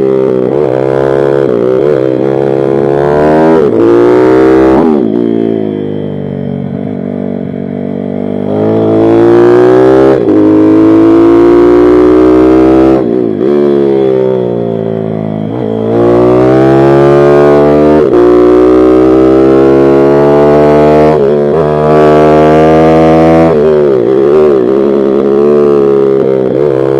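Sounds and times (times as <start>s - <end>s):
motorbike engine revving: 0.0s - 26.9s.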